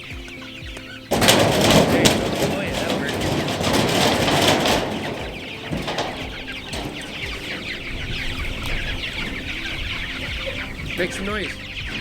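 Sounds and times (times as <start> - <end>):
chicks peeping and clucking: 0.0 - 12.0
rustling noise: 0.0 - 12.0.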